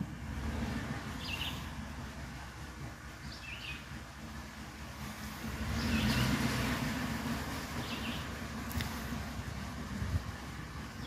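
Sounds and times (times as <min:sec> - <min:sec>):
songbird chirping: 0:00.5 - 0:11.0.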